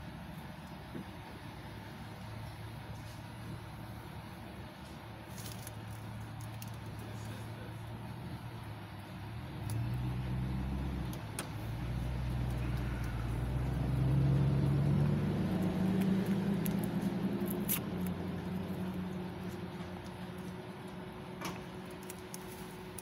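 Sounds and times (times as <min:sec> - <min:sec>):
car engine hum from inside: 0:00.0 - 0:23.0.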